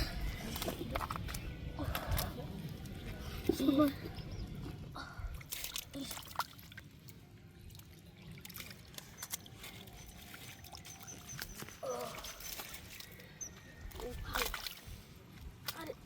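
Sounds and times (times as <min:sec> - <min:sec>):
water trickling and sloshing: 0:00.0 - 0:16.0
small splashes and knocks: 0:00.4 - 0:03.8, 0:05.4 - 0:16.0.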